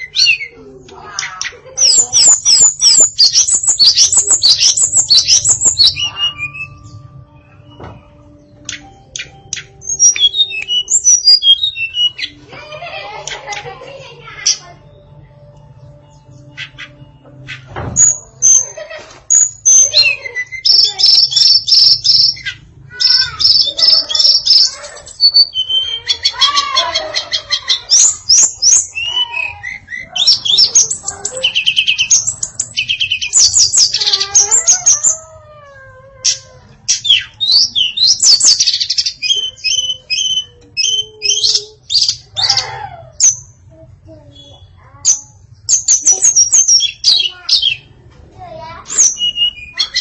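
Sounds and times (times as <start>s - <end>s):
bird singing chirps and trills: 0.0s - 50.0s.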